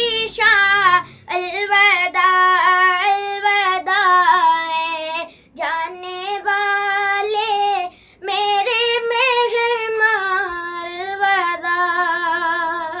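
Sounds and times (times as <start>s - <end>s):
boy singing unaccompanied: 0.0s - 13.0s.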